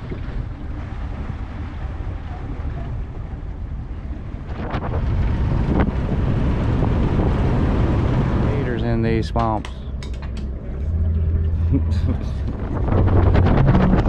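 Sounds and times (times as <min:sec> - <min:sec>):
boat engine rumbling: 0:00.0 - 0:14.0
wind buffeting microphone: 0:00.0 - 0:14.0.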